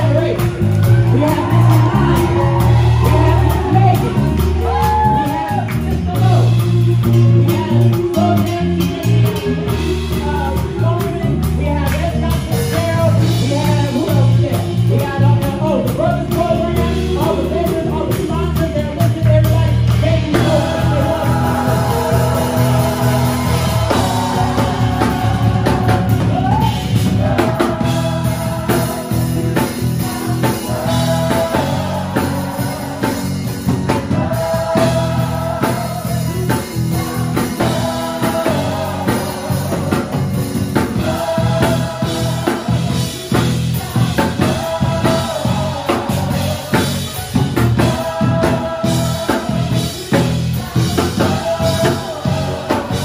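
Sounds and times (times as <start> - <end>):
drum kit beat: 0.0 - 53.0.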